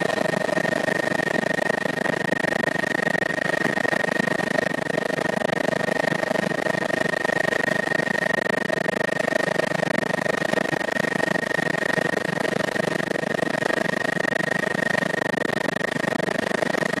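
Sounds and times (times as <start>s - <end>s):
helicopter engine and rotor: 0.0s - 17.0s
steady high whine: 0.0s - 17.0s.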